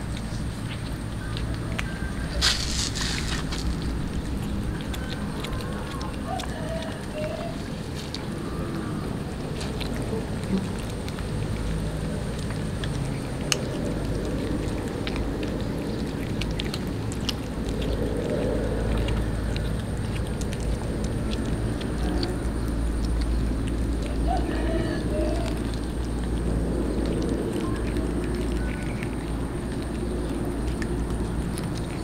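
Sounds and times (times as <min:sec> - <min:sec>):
cat chewing and licking: 0:00.0 - 0:32.0
low rumble: 0:00.0 - 0:32.0.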